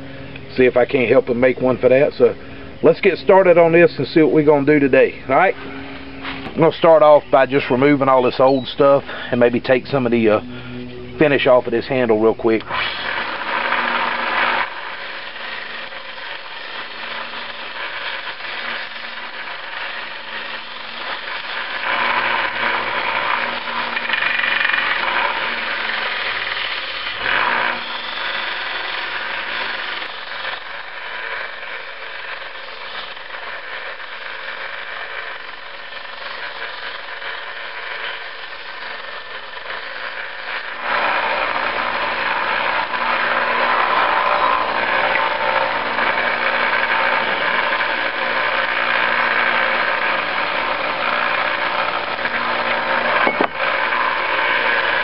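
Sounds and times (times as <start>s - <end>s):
electric power tool running: 0.0s - 55.0s.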